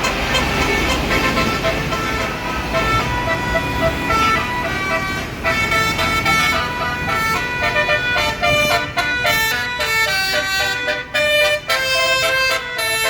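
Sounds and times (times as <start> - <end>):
musical bus horn melody: 0.0 - 13.0.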